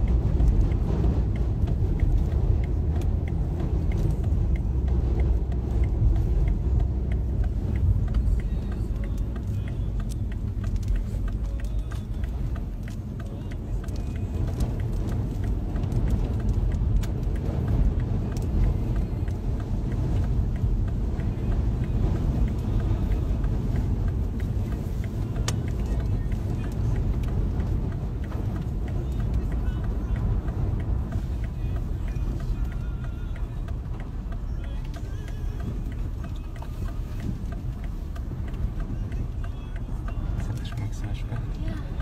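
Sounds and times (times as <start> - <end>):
car cabin rumble while driving: 0.0 - 42.0
light ticks against car body: 0.0 - 42.0.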